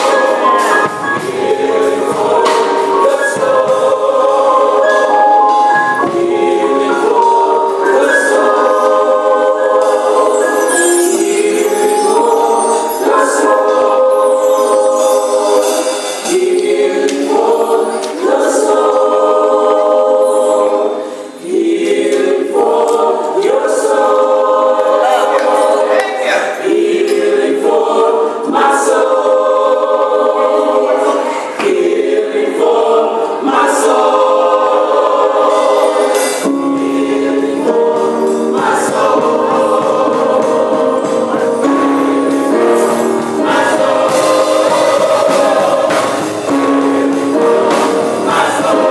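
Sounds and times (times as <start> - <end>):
gospel choir singing: 0.0 - 48.9.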